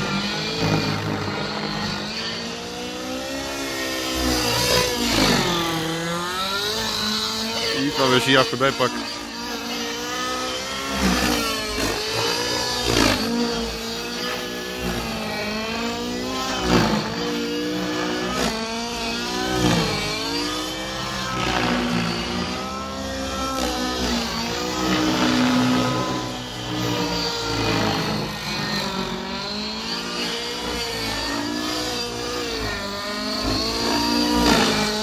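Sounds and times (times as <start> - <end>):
model helicopter engine and rotors: 0.0 - 35.0.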